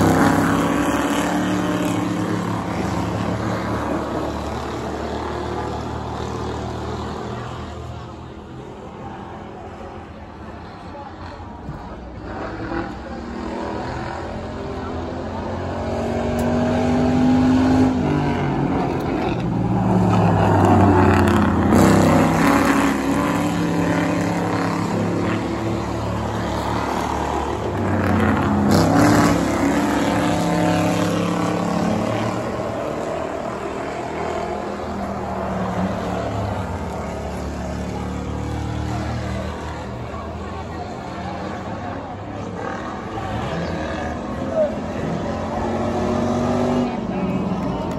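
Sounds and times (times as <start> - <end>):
race car engines passing: 0.0 - 47.9.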